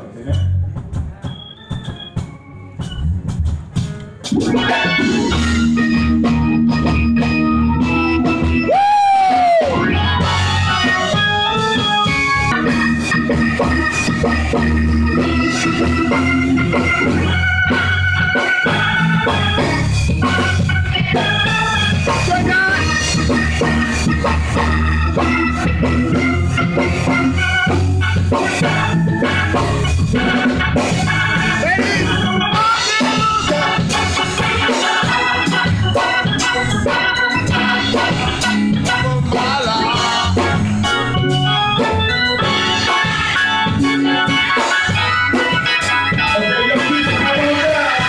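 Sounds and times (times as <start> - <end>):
organ playing gospel music: 0.0 - 48.0.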